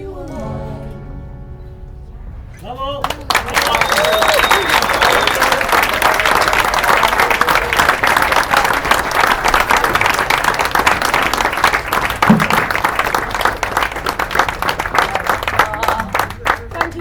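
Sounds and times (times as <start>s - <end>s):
audience applauding: 3.0s - 17.0s.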